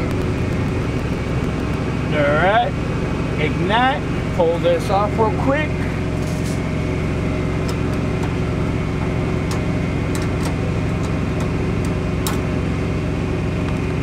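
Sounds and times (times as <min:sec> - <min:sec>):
portable generator running: 0:00.0 - 0:14.0.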